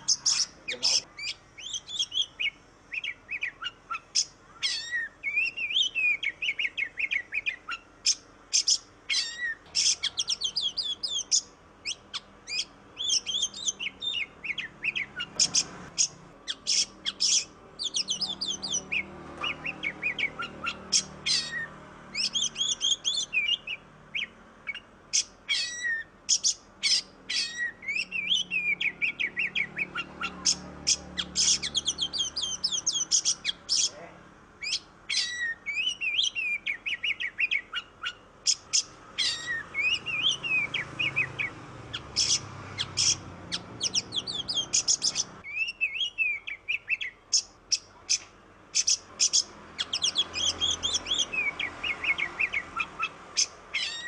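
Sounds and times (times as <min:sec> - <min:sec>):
bird singing whistled notes: 0:00.0 - 0:34.0, 0:34.6 - 0:54.0.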